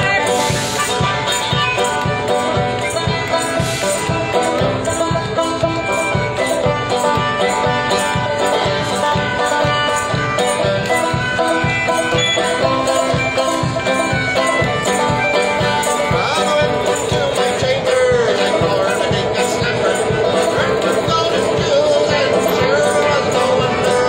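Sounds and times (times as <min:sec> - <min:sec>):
low bass drum beat: 0:00.0 - 0:24.0
melodica holding long notes: 0:00.0 - 0:24.0
picked banjo: 0:00.0 - 0:24.0.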